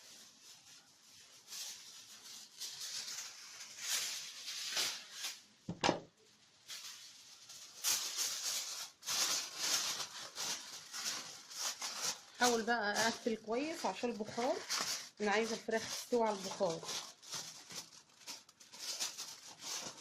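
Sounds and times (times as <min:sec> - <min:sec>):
aluminium foil crinkling: 0:00.0 - 0:20.0.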